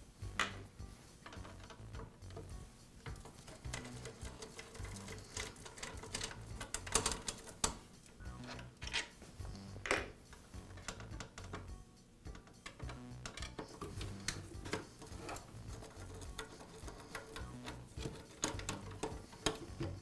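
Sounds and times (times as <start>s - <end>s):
background music: 0.0s - 20.0s
screwdriver metal clicks and scrapes: 1.2s - 9.2s, 10.3s - 11.7s, 12.3s - 20.0s.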